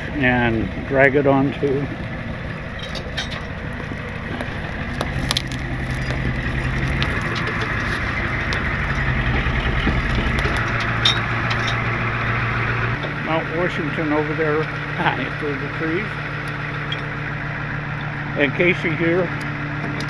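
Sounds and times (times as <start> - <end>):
twigs and gravel crackling: 0.0 - 13.2, 13.9 - 20.0
truck engine reversing: 0.0 - 20.0.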